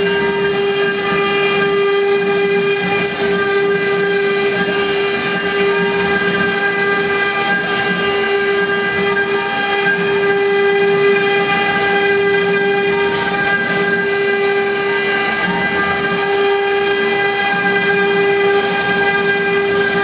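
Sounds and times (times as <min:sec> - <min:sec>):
router spindle whining: 0:00.0 - 0:20.0.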